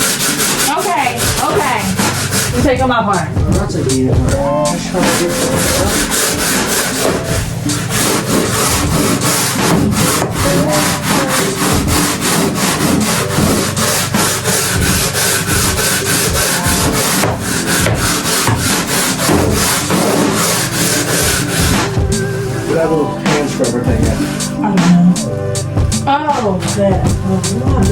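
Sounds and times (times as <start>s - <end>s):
scrubbing brush on floor: 0.0s - 25.1s.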